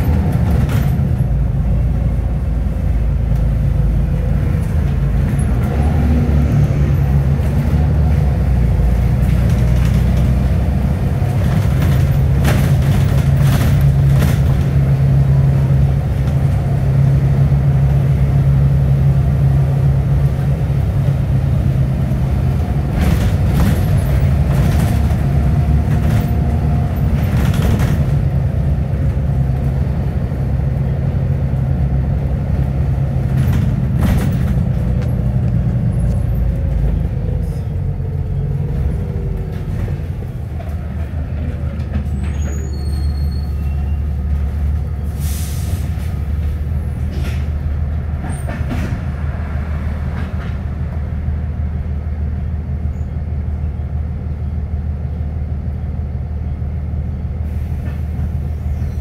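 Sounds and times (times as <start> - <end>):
bus body rattling: 0.0 - 51.6
bus engine humming: 0.0 - 59.0.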